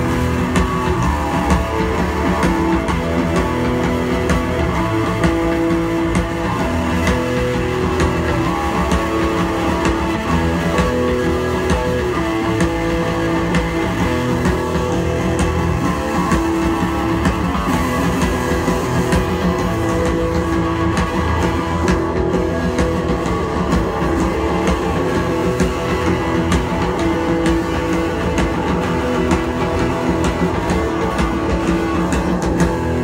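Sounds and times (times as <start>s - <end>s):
electric guitars: 0.0s - 33.0s
steady drum beat: 0.0s - 33.0s.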